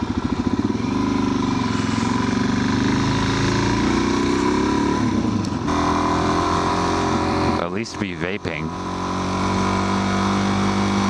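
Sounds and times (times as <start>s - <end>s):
motorcycle engine chugging: 0.0s - 11.0s.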